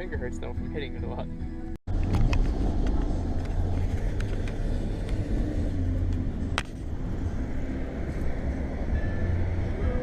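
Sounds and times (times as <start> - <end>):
road vehicle rumble: 0.0 - 10.0.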